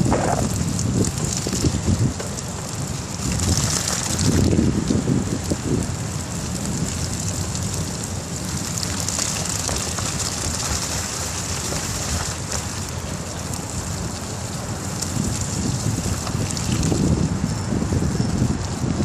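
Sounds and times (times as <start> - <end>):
bicycle tyres hissing over slush: 0.0 - 19.0
wind rumbling on microphone: 0.0 - 19.0.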